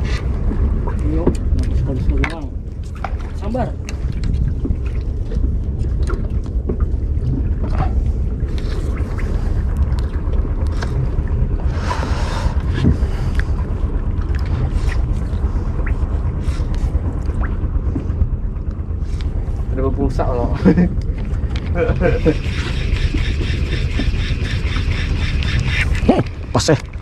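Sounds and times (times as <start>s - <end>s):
open sea ambience: 0.0s - 27.0s
wind buffeting microphone: 0.0s - 27.0s.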